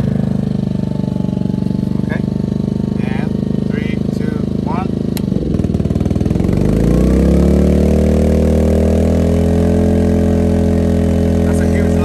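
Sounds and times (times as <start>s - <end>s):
generator engine speeding up: 0.0s - 12.0s.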